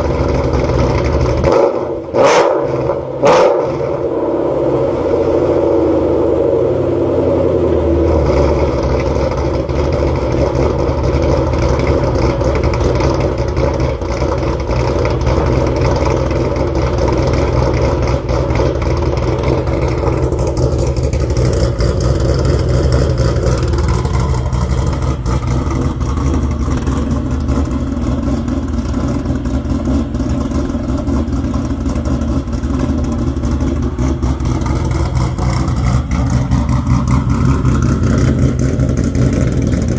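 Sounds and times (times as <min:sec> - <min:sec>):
car engine idling with choppy lope: 0:00.0 - 0:39.9.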